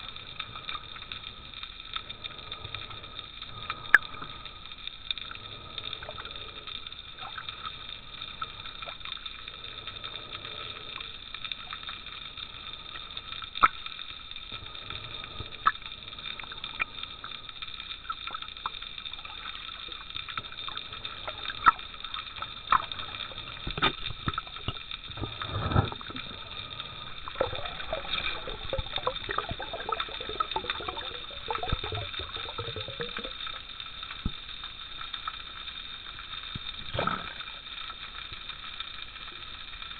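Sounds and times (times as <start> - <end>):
water sloshing and gurgling: 0.0 - 35.4, 36.2 - 38.3.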